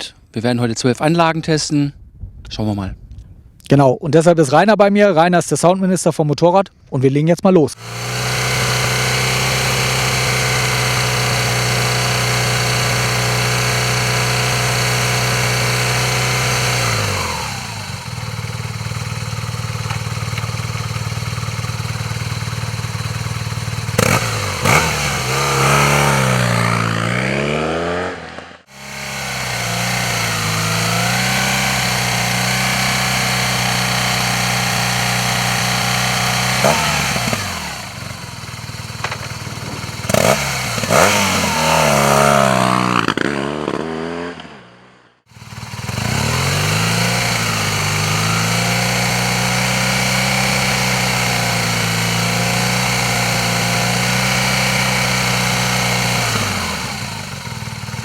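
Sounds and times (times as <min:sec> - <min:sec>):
motorcycle engine revving: 0:07.7 - 0:58.0.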